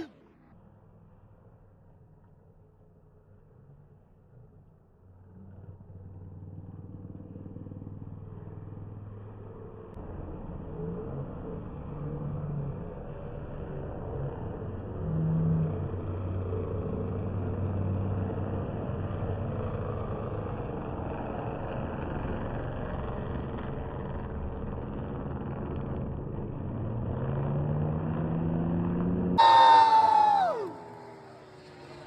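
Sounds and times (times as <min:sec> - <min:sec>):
racing motorcycle engines: 0:03.2 - 0:32.0.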